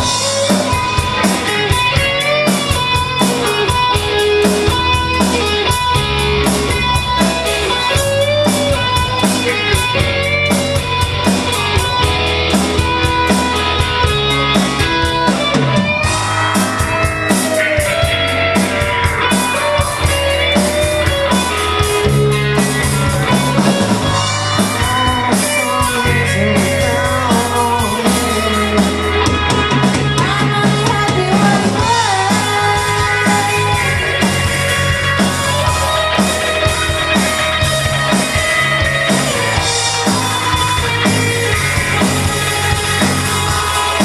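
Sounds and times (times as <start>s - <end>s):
bass guitar: 0.0s - 44.0s
drum kit steady beat: 0.0s - 44.0s
electric guitar: 0.0s - 44.0s.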